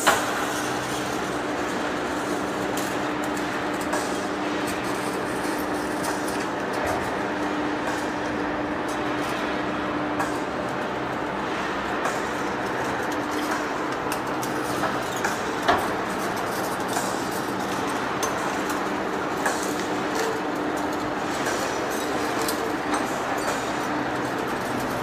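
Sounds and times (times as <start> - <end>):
steady mechanical noise: 0.0 - 25.0.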